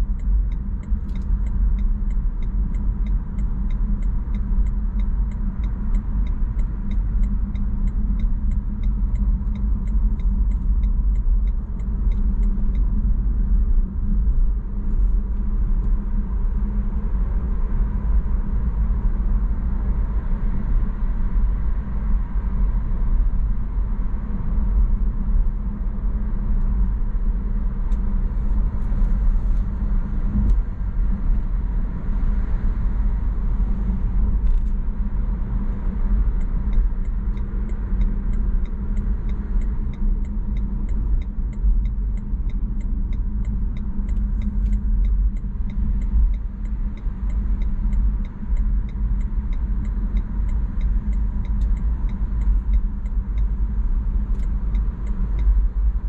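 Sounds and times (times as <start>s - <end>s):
turn signal ticking: 0.0s - 16.6s, 17.3s - 56.0s
car road and engine rumble: 0.0s - 56.0s.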